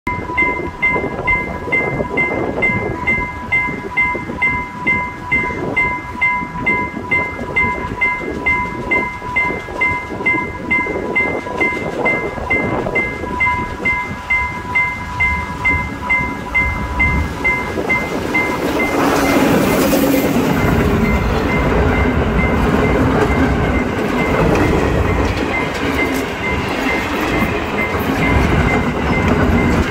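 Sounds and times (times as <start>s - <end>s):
diesel train rumble: 0.1s - 29.9s
level crossing alarm ringing: 0.1s - 29.9s.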